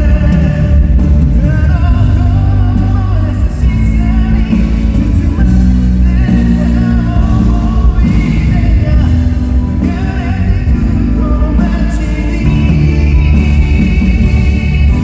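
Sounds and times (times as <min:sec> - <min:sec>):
live band playing: 0:00.0 - 0:15.0
man singing: 0:00.0 - 0:15.0.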